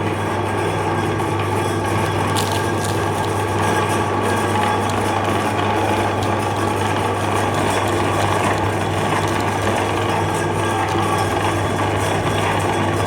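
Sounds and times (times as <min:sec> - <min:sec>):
meat grinder motor whirring: 0:02.0 - 0:13.0.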